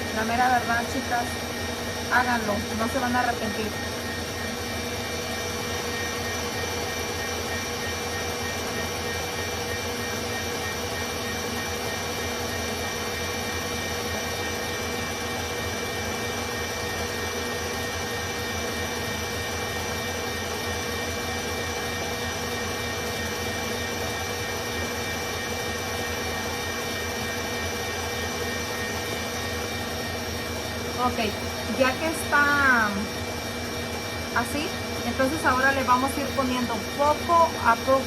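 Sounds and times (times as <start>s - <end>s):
electric mixer whine: 0.0s - 38.0s.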